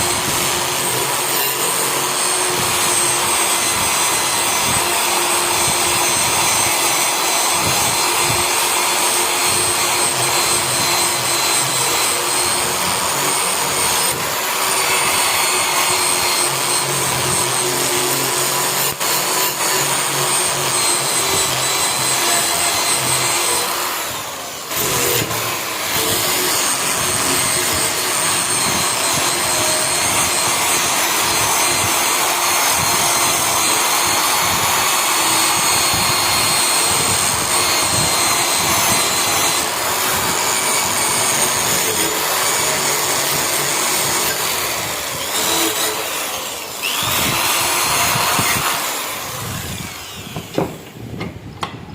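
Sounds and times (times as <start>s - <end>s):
rasping grinding: 0.0s - 51.2s
power tool whining on steel: 0.0s - 51.9s.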